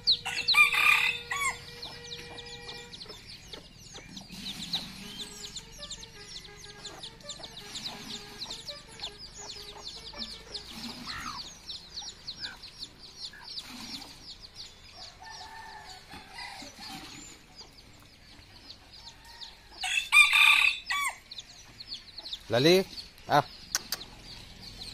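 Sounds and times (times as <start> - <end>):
hen clucking: 0.0 - 24.4
small birds chirping: 0.0 - 24.9.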